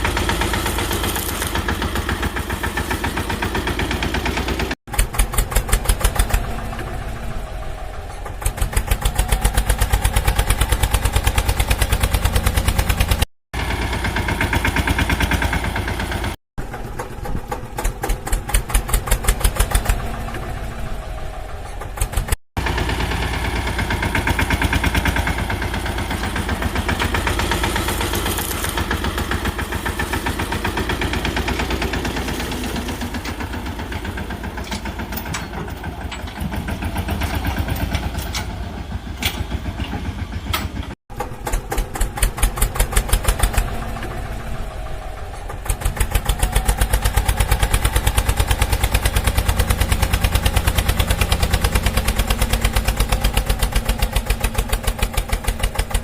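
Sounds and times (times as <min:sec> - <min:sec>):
diesel engine idling: 0:00.0 - 0:56.0
diesel engines clattering: 0:00.0 - 0:56.0.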